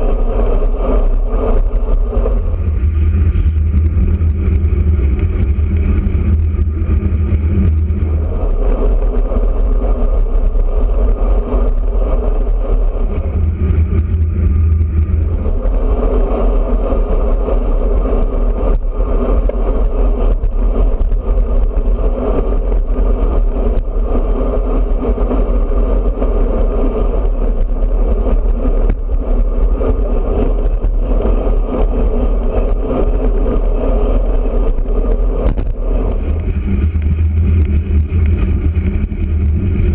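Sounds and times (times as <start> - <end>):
tyres rumbling on road: 0.0 - 39.9
wind rushing over microphone: 0.0 - 39.9.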